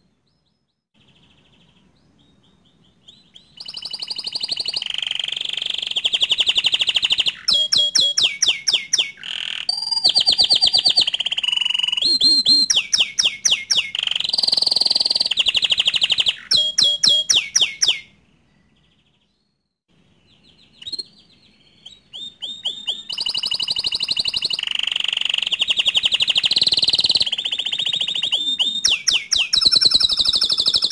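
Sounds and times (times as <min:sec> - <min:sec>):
canary singing: 0:00.3 - 0:30.9.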